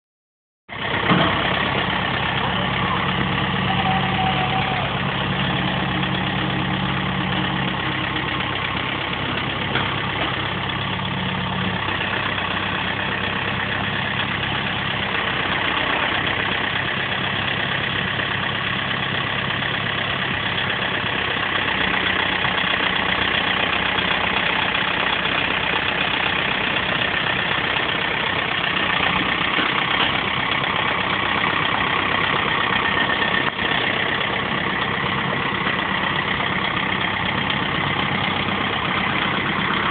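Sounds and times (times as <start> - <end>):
tractor engine under load: 0.7 - 39.9.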